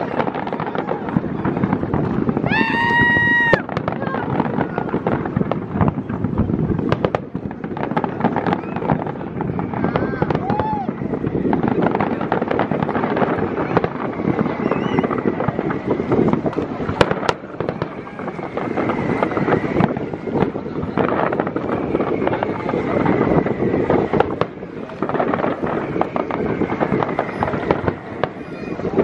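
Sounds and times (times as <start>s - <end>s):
fireworks cracking and popping: 0.0s - 29.0s.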